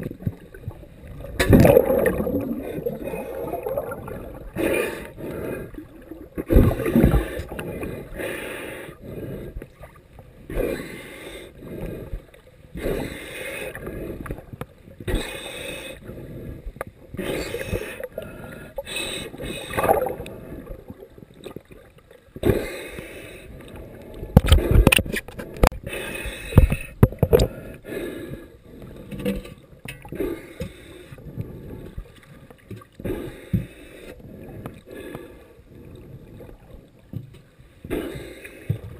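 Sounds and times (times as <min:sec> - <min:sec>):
muffled underwater sloshing and bubbling: 0:00.0 - 0:38.9.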